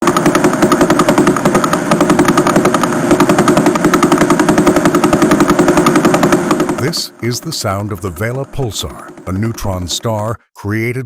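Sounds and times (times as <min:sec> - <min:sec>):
rapid even pulses: 0:00.0 - 0:10.3.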